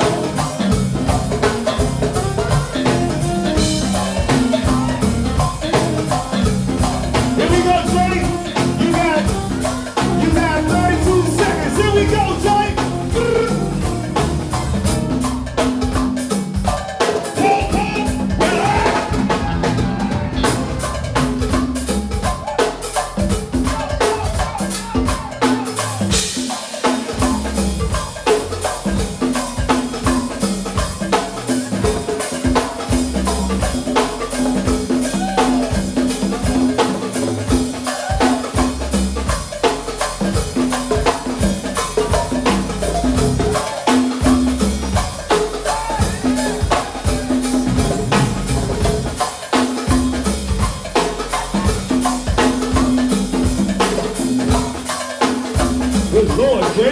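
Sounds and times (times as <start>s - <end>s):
music with drum beat and bass: 0.0s - 56.9s.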